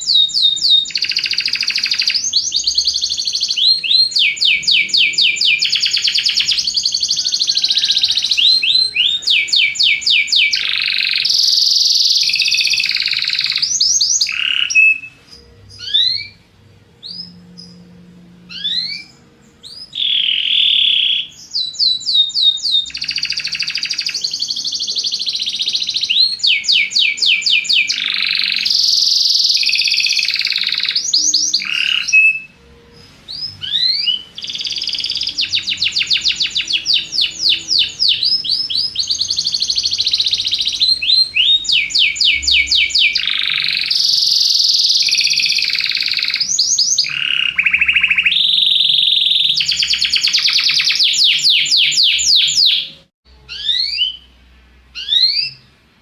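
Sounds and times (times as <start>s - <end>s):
canary singing trills: 0.0s - 55.8s.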